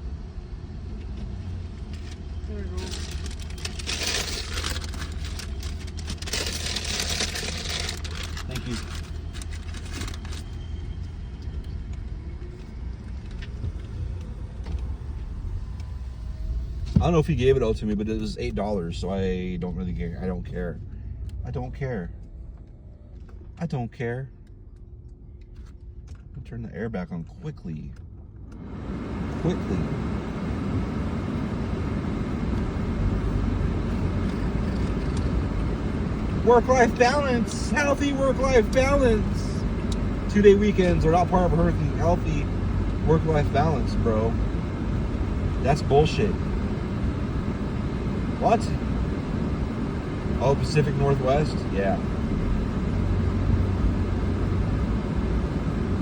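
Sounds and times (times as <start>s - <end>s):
air-conditioning fan blowing: 0.0s - 56.0s
car rumble inside cabin: 0.0s - 56.0s.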